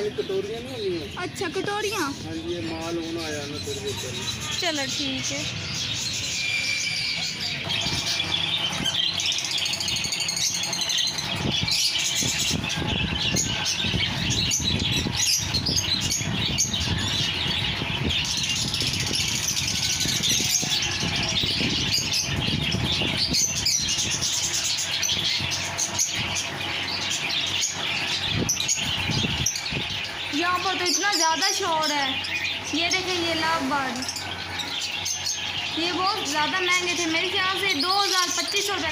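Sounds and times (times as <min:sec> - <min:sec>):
birds chattering and chirping: 0:00.0 - 0:38.9.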